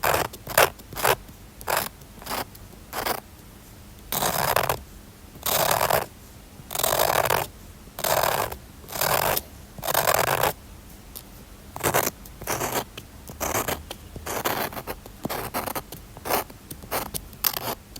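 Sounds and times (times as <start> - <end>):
drawing tool scratching paper: 0.0 - 3.2, 4.1 - 4.8, 5.4 - 6.1, 6.7 - 10.6, 11.8 - 17.8.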